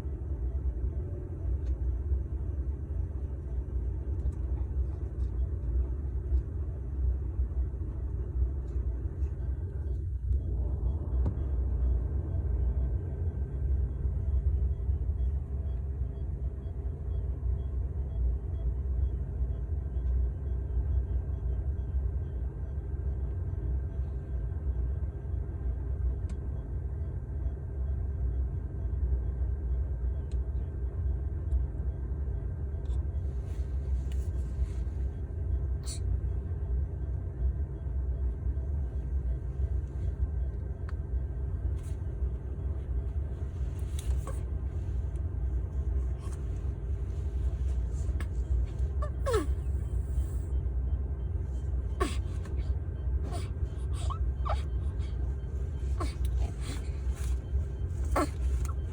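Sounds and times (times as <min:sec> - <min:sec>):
incubator fan and motor humming: 0:00.0 - 0:58.9.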